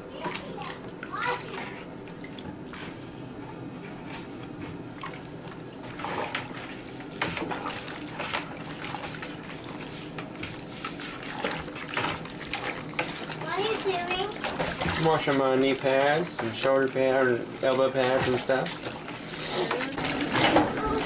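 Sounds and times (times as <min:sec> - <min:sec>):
soapy water sloshing in a bucket: 0:00.0 - 0:21.0
hand swishing gear in water: 0:00.2 - 0:21.0.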